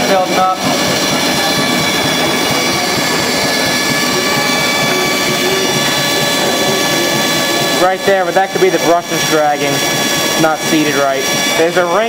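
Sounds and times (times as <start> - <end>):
engine running: 0.0 - 12.0
generator mechanical whir: 0.0 - 12.0.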